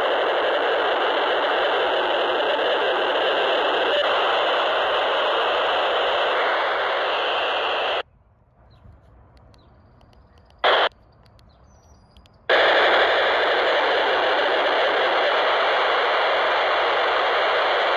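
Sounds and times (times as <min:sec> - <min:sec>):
radio data buzz: 0:00.0 - 0:08.0, 0:10.1 - 0:11.0, 0:11.7 - 0:17.9.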